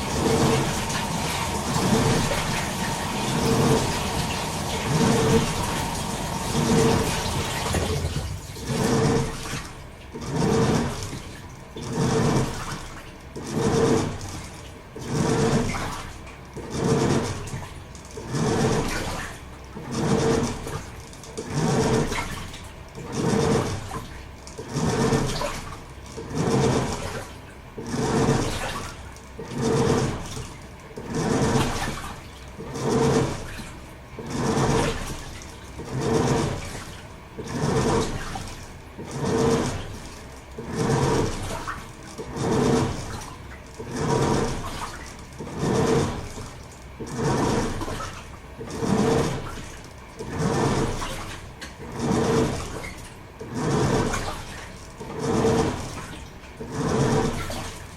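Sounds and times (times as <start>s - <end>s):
washing machine motor hum: 0.0s - 57.9s
washing machine water sloshing: 0.0s - 57.9s.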